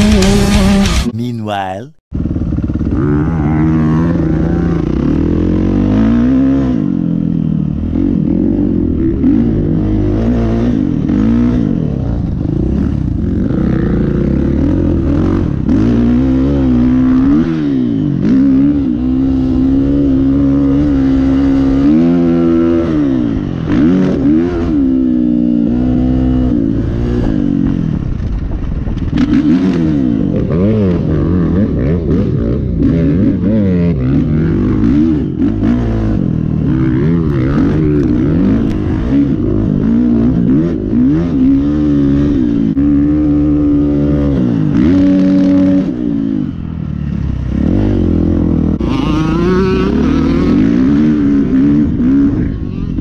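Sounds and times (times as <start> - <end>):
dirt bike engine revving: 0.0 - 1.1, 2.4 - 27.8, 29.2 - 46.4, 47.3 - 53.0.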